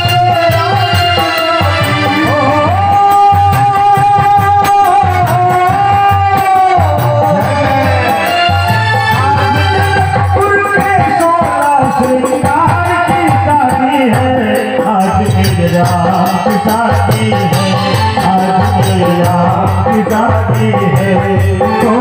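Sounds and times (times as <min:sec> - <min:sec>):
electronic keyboard: 0:00.0 - 0:22.0
person singing over loudspeakers: 0:00.0 - 0:22.0.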